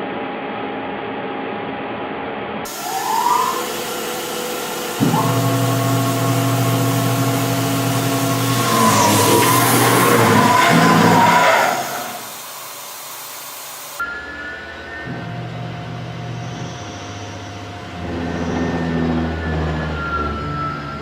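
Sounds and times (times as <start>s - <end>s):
high whining tones: 2.7s - 12.7s, 13.9s - 21.0s
machine humming: 2.7s - 21.0s.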